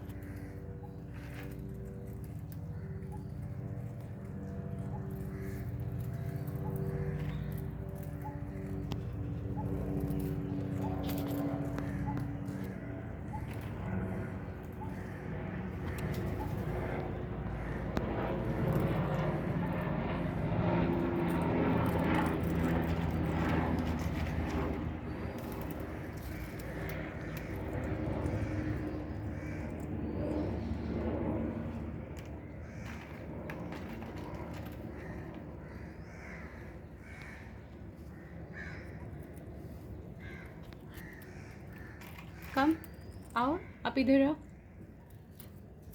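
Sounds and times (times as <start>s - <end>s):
low engine drone: 0.0s - 43.8s
low steady hum: 0.0s - 45.9s.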